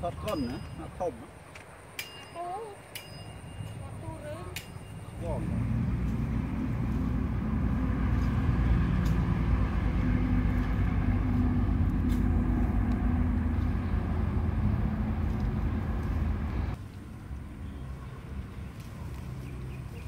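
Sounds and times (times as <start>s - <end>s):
motor engine rumbling: 2.4s - 20.0s.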